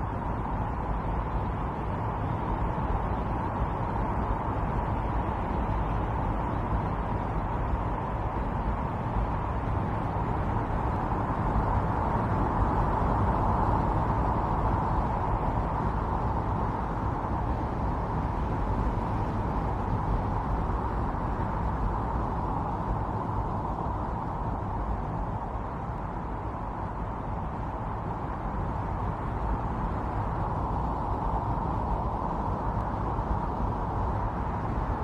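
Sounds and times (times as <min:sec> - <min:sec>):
strong storm wind: 0:00.0 - 0:35.0.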